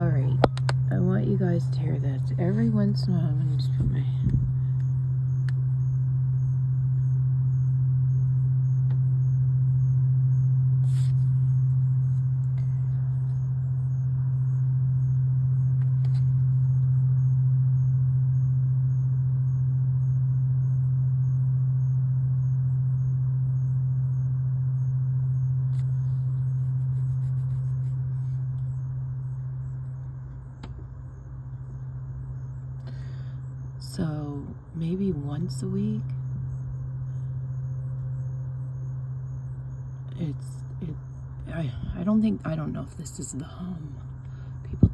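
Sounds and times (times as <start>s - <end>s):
low-pitched drone: 0.0s - 44.9s.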